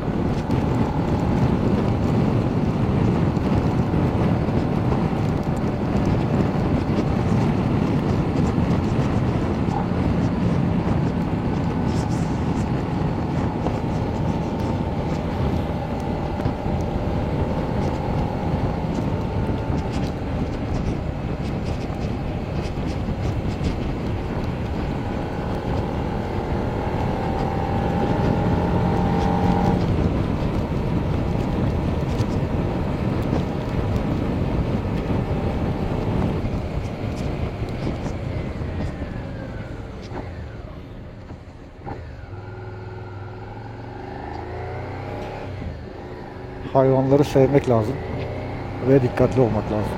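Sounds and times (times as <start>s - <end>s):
motorcycle engine running: 0.0s - 49.9s
wind and road rush: 0.0s - 49.9s.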